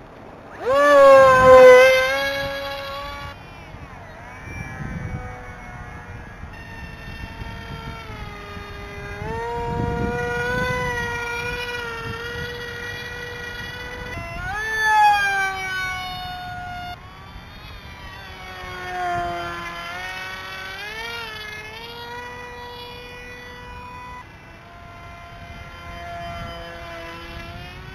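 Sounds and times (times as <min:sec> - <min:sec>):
model plane motor whine: 0:00.0 - 0:27.9.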